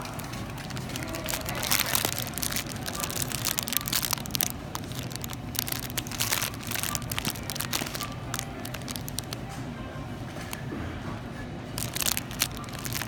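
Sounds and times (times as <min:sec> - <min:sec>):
cellophane bag crinkling: 0:00.0 - 0:09.4, 0:11.8 - 0:13.0
faint background music: 0:00.0 - 0:13.0.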